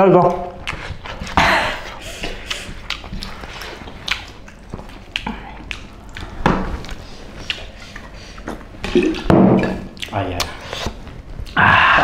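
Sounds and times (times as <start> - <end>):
squishing food and chewing: 0.2 - 11.6.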